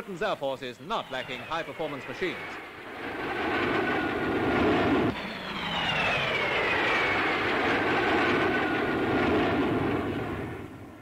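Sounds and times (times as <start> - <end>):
jet fighter flying past: 0.7 - 11.0.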